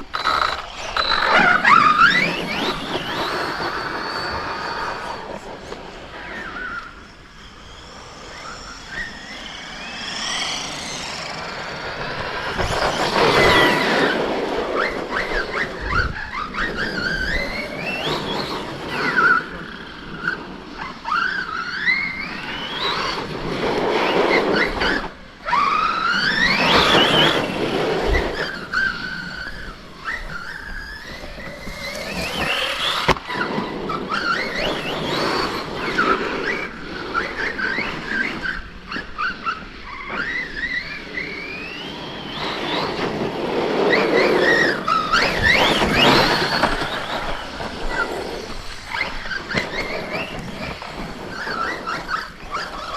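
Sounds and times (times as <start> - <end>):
tyres on dirt: 0.0 - 20.5, 21.1 - 52.9
electric motors whining: 0.0 - 52.9.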